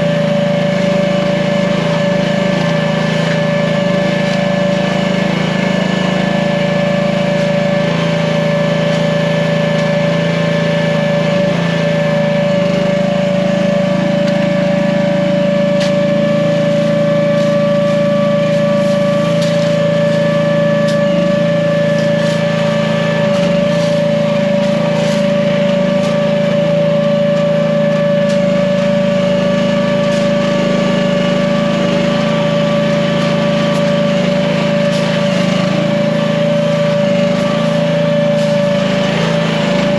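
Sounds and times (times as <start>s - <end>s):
small gasoline engine running: 0.0s - 39.9s
steady whine: 0.0s - 39.9s.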